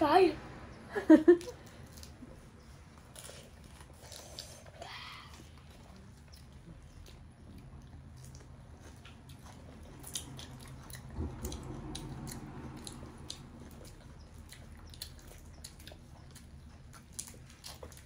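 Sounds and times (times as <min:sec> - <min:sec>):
faint low hum: 0:00.0 - 0:18.0
chewing and biting: 0:01.4 - 0:18.0.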